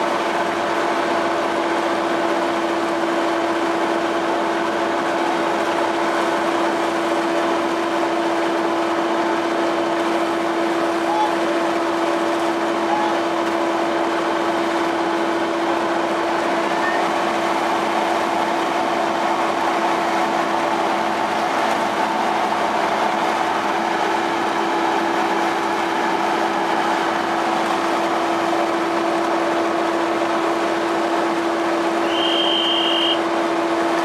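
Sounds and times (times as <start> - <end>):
ship engine and winch gear drone: 0.0 - 34.0.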